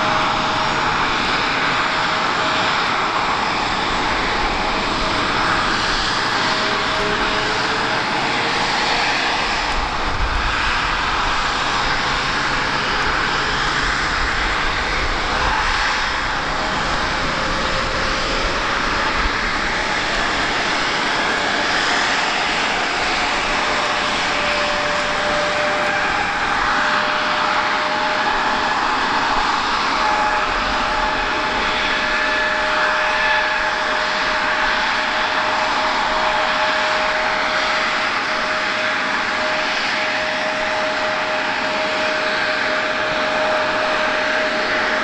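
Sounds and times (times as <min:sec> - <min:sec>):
jet turbines idling: 0:00.0 - 0:45.0.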